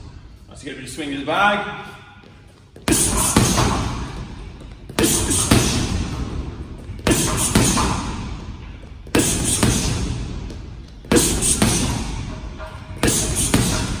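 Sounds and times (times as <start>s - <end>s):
boxing gloves punching heavy bag: 2.8s - 14.0s.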